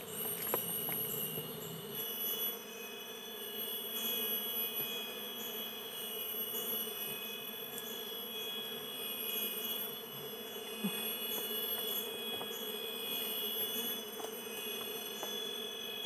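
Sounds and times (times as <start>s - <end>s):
honeybees buzzing: 0.0s - 16.0s
insects trilling: 0.0s - 16.0s.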